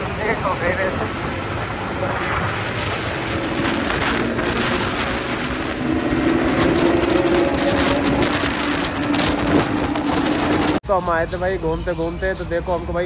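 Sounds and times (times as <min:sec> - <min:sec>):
motorcycle engine droning: 0:00.0 - 0:10.8
wind rushing over microphone: 0:00.0 - 0:13.0.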